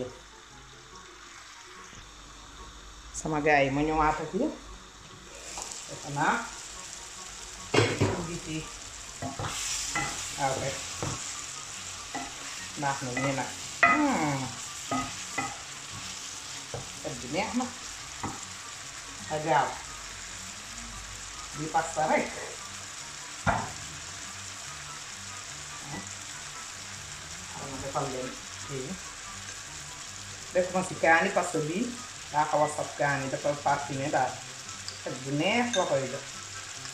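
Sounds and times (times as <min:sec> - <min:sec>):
food sizzling in a pan: 0:00.0 - 0:36.9.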